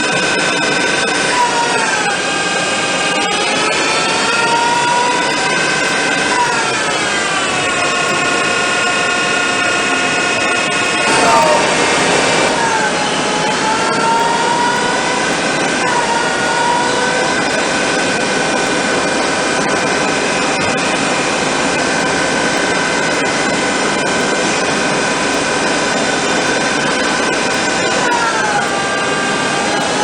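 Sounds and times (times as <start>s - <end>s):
lathe spindle whine: 0.0s - 30.0s
continuous hiss: 2.6s - 30.0s.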